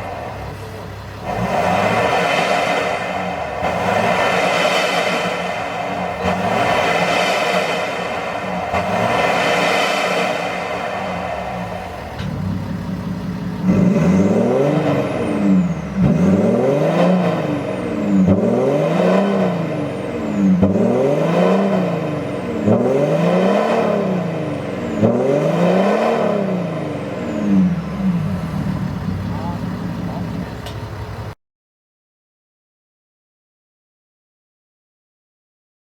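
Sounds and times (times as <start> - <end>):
car engine revving: 0.0 - 31.4.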